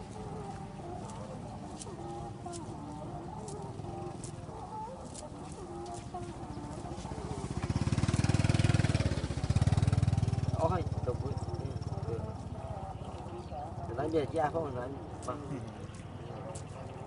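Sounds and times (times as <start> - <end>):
chickens clucking: 0.0 - 17.0
small engine rumbling: 0.0 - 17.0.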